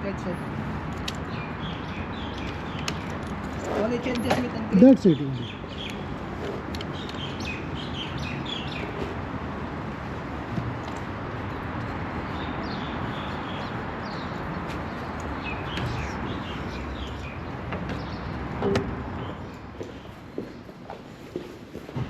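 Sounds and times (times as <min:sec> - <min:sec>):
outdoor background noise: 0:00.0 - 0:22.0
small birds chirping: 0:01.0 - 0:09.3, 0:11.3 - 0:20.8.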